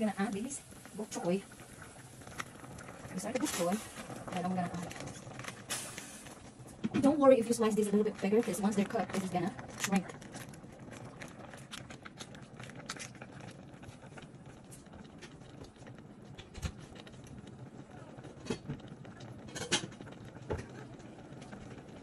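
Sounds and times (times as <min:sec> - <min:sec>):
soup boiling and bubbling: 0:00.0 - 0:22.0.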